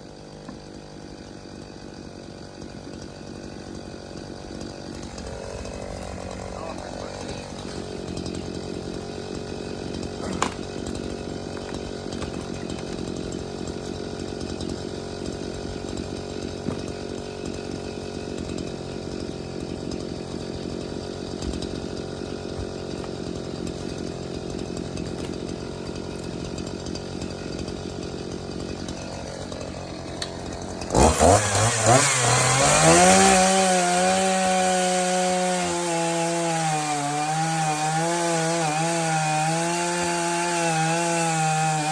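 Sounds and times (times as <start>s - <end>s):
chainsaw cutting wood: 0.0s - 41.9s
chainsaw running: 0.0s - 41.9s.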